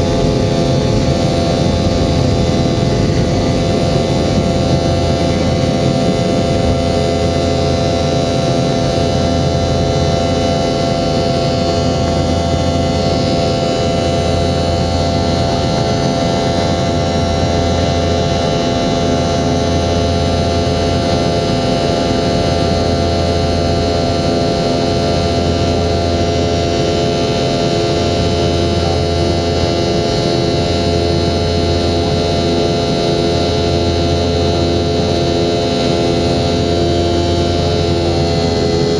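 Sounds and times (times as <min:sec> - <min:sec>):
jet engines droning: 0:00.0 - 0:38.9
low hum: 0:00.0 - 0:38.9
steady whining tones: 0:00.0 - 0:38.9.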